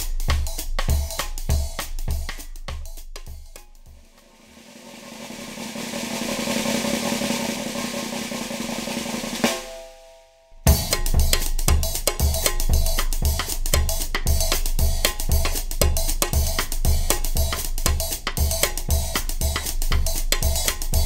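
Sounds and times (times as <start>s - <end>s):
drum beat: 0.0s - 21.0s
drum roll ending on a hit: 0.0s - 21.0s.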